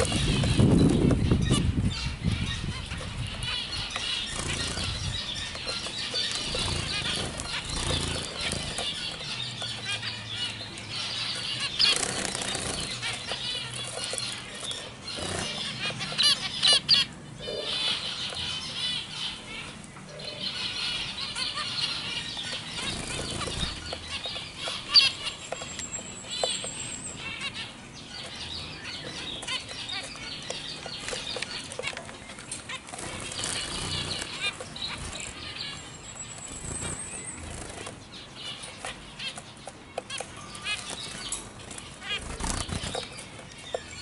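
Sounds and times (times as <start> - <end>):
finches calling: 0.0 - 44.0.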